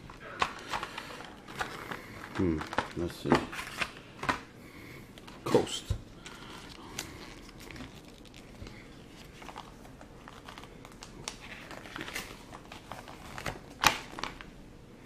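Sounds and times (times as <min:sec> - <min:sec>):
packaging rustling and crinkling: 0:00.0 - 0:04.5, 0:05.2 - 0:14.5.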